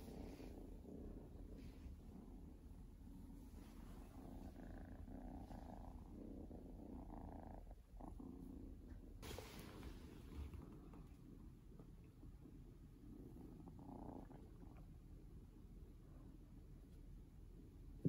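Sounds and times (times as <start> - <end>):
kitten purring: 0.0 - 18.0.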